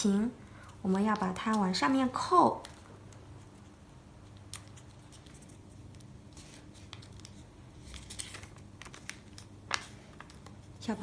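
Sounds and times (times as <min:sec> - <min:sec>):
paper being folded and creased: 0:00.9 - 0:11.0.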